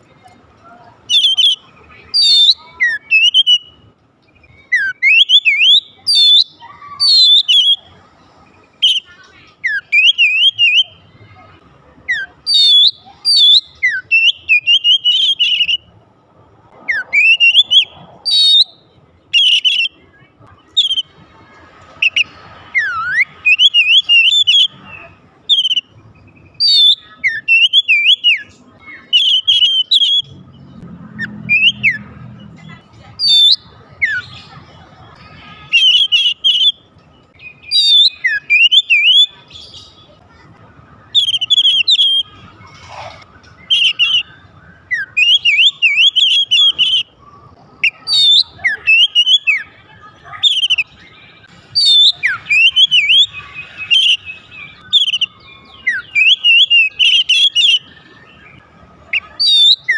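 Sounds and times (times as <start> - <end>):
bird whistled song: 0.2 - 8.0, 8.6 - 11.4, 12.0 - 16.0, 16.9 - 40.3, 41.0 - 59.9.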